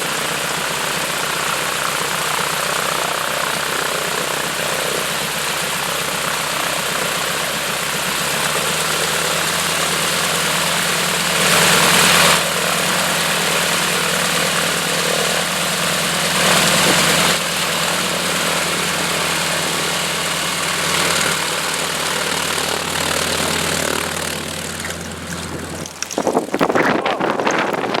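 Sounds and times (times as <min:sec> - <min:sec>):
propeller airplane engine humming: 0:00.0 - 0:28.0
irregular rumbling bursts: 0:00.2 - 0:28.0.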